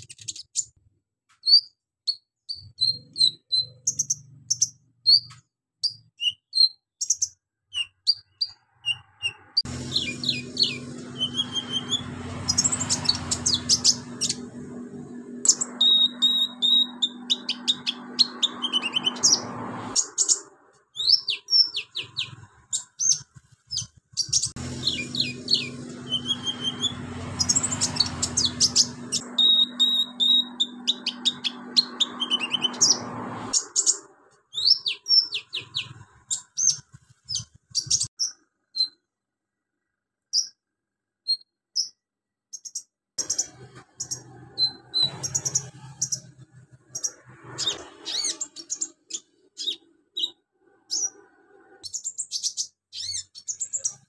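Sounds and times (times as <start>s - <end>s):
bird singing chattering song: 0.0s - 0.8s, 1.4s - 39.0s, 40.3s - 40.6s, 41.2s - 54.0s.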